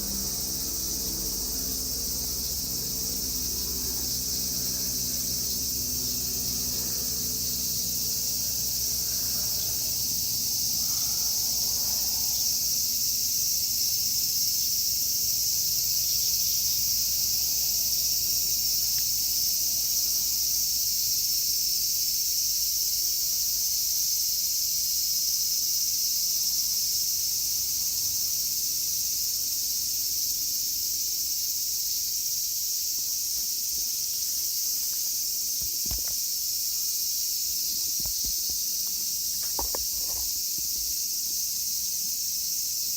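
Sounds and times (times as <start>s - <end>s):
cicadas singing: 0.0s - 42.9s.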